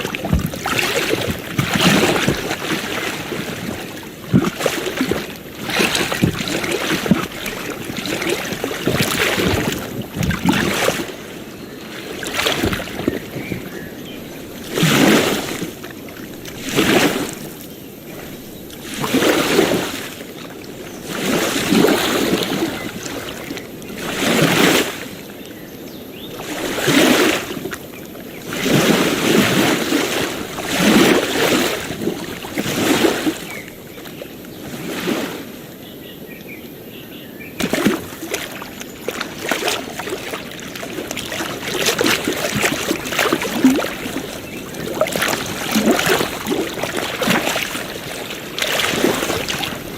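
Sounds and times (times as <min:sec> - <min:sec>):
choppy water splashing: 0:00.0 - 0:49.9
small waves lapping on beach: 0:00.0 - 0:49.9.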